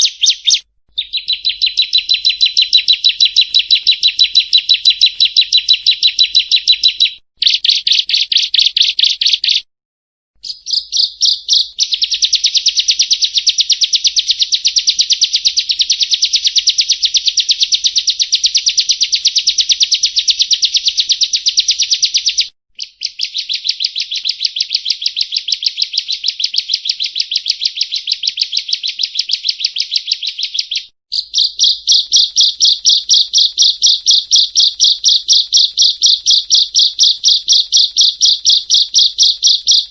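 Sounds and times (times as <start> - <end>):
bird high chirps: 0.0 - 9.7, 10.4 - 39.9.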